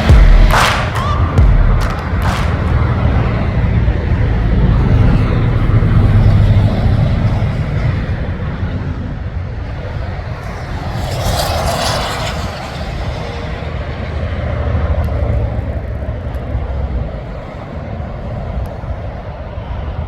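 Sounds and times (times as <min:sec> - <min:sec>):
rushing noise of passing trucks: 0:00.0 - 0:20.0
trucks engine rumble: 0:00.0 - 0:20.0.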